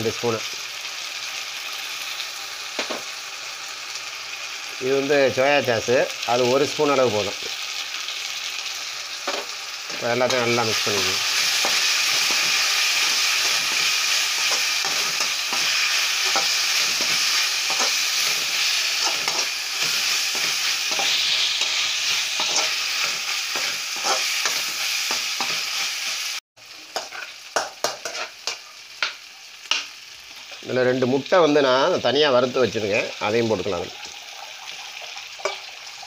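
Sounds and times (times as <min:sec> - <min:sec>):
vegetables sizzling in a pan: 0:00.0 - 0:36.0.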